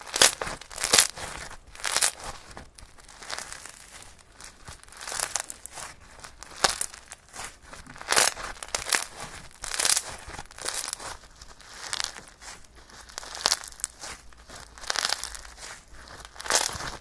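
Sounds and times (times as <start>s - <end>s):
slime squished by hand: 0.1s - 17.0s.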